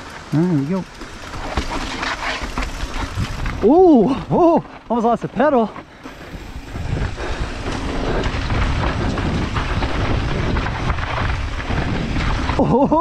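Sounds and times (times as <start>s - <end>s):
bike rattling and clattering: 0.0s - 13.0s
tyres rumbling over dirt: 0.0s - 13.0s.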